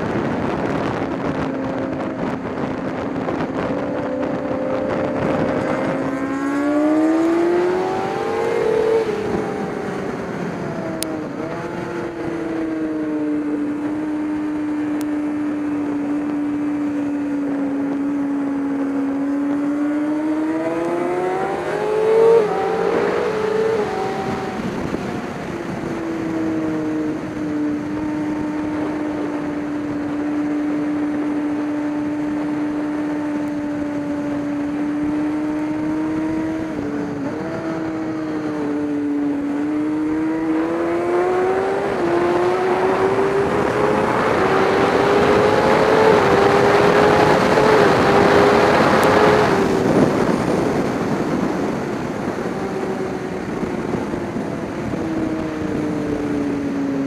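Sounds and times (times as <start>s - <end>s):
race engine running at speed: 0.0s - 57.0s.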